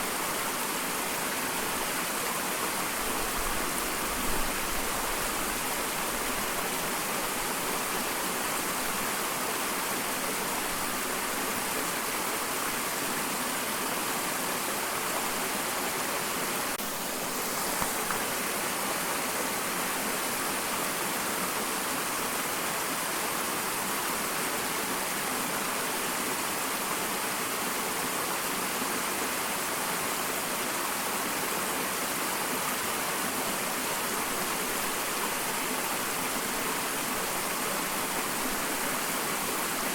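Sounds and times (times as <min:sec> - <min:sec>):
small waterfall rushing: 0:00.0 - 0:39.9.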